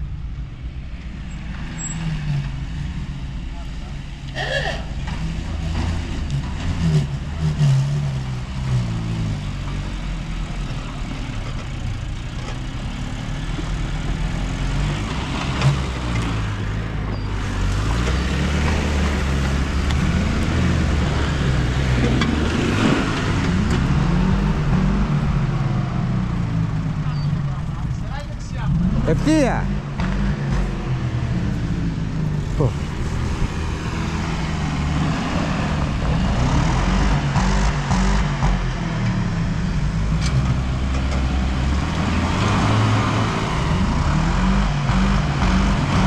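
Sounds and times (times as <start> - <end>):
car engine running under load: 0.0 - 46.0.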